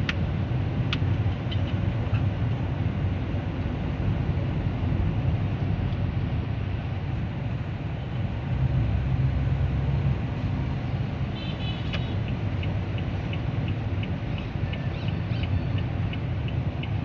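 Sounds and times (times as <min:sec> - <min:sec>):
car engine and tyres rumble: 0:00.0 - 0:17.0.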